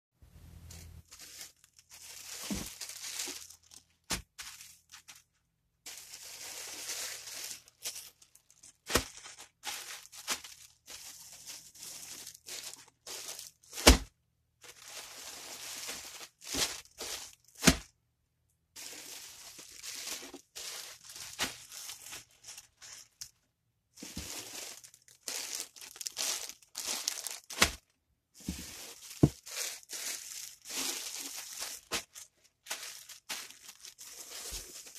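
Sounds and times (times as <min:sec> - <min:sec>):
plastic bags crinkling: 0:00.7 - 0:17.9, 0:18.8 - 0:23.4, 0:24.0 - 0:34.9.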